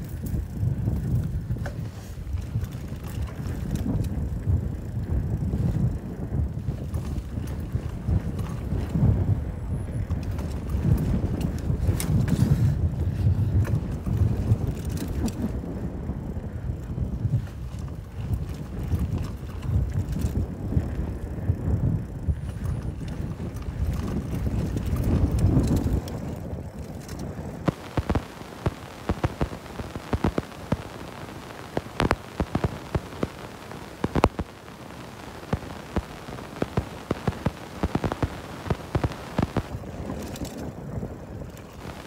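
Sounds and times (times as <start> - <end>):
bike clicking and rattling: 0.0 - 42.0
low rumble of bike rolling: 0.0 - 42.0
wind on microphone: 0.0 - 42.0.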